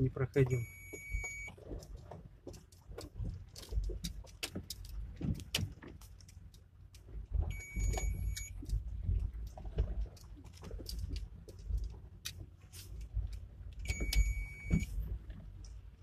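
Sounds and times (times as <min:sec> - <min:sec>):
rattles and knocks in car cabin: 0:00.0 - 0:06.2, 0:07.0 - 0:13.3, 0:13.9 - 0:16.0.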